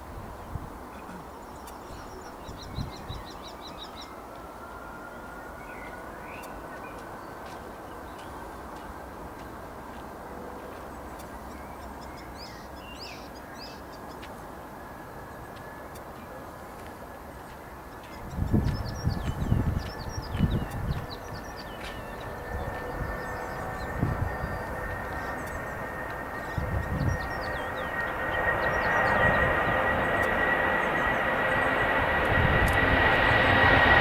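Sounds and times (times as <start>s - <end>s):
distant jet engines spooling up: 0.0s - 34.0s
birds chirping: 0.2s - 4.4s, 5.1s - 34.0s.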